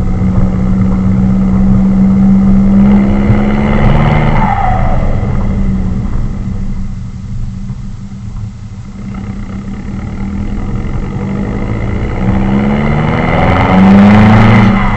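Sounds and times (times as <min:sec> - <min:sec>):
car engine through exhaust: 0:00.0 - 0:14.9.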